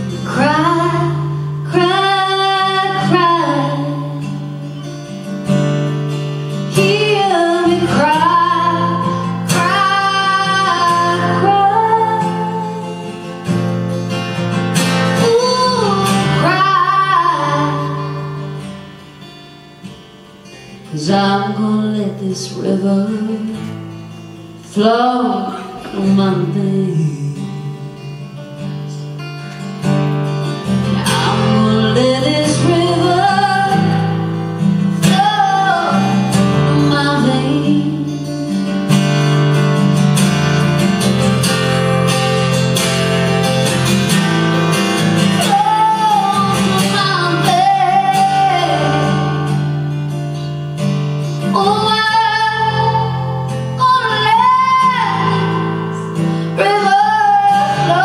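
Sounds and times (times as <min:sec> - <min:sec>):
acoustic guitar strummed: 0:00.0 - 0:58.0.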